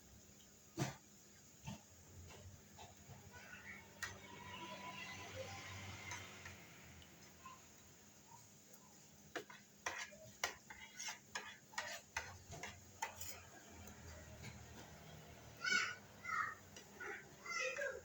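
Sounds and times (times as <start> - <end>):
utensils tapping and scraping bowl: 1.6 - 7.8, 9.3 - 18.0.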